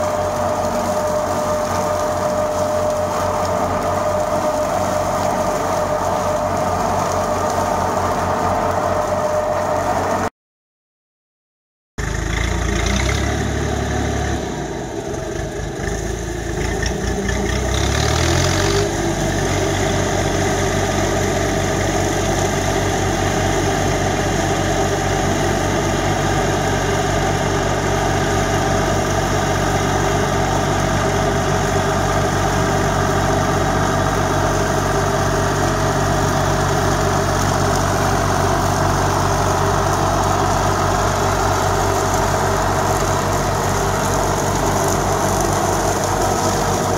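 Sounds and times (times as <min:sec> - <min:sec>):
rotary mulcher mowing grass: 0:00.0 - 0:10.3, 0:12.0 - 0:46.9
tractor diesel engine running: 0:00.0 - 0:10.3, 0:12.0 - 0:46.9.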